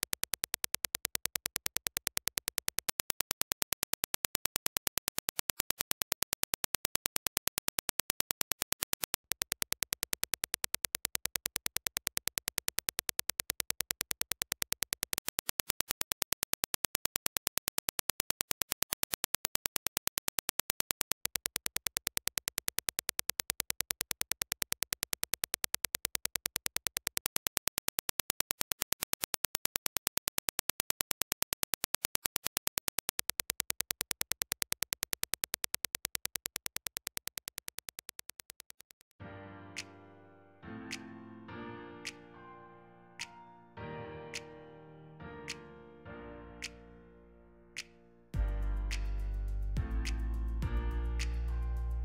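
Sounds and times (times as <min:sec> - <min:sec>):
train of sharp digital clicks: 0:00.0 - 0:39.2, 0:40.9 - 0:41.2, 0:43.2 - 0:43.4, 0:47.8 - 0:50.6.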